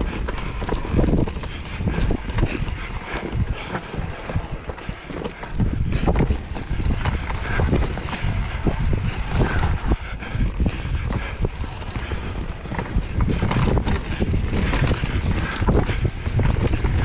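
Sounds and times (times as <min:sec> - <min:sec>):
bike knocking and rattling: 0:00.0 - 0:17.0
tyres rumbling over dirt: 0:00.0 - 0:17.0
wind buffeting microphone: 0:00.0 - 0:17.0.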